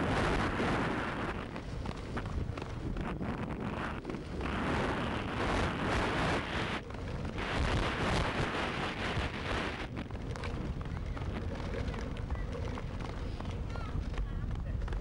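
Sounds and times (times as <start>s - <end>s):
wheels rumbling on road: 0.0s - 15.0s
wind buffeting microphone: 0.0s - 15.0s.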